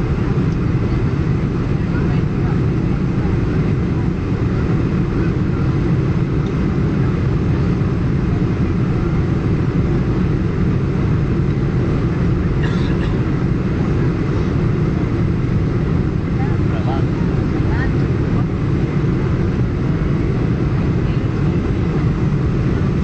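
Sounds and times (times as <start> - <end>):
aircraft engine noise: 0.0 - 23.0.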